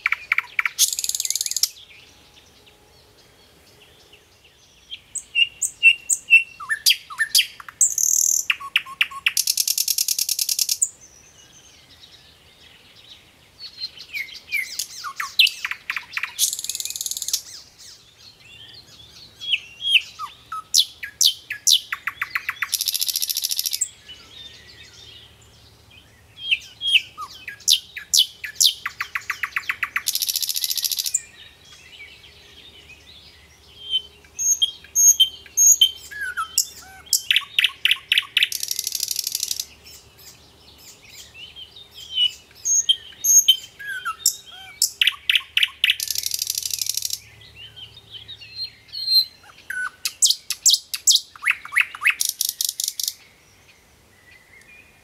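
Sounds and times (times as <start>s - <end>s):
nightingale singing: 0.0s - 55.0s.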